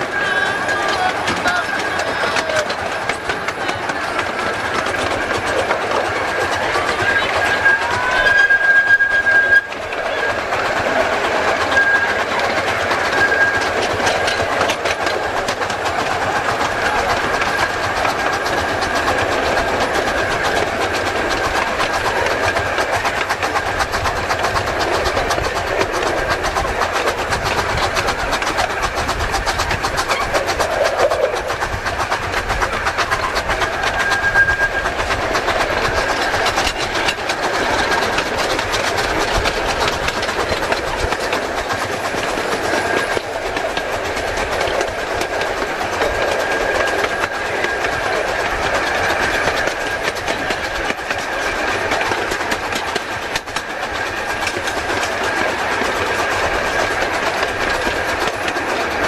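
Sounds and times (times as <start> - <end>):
train wheels clicking on rails: 0.0 - 59.0.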